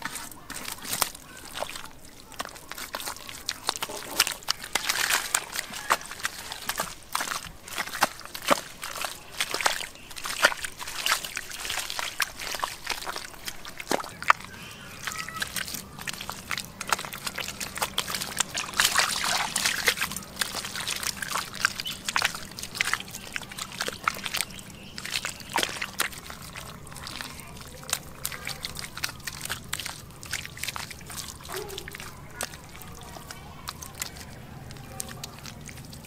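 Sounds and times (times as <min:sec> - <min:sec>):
hands sloshing through mud and water: 0:00.0 - 0:36.0.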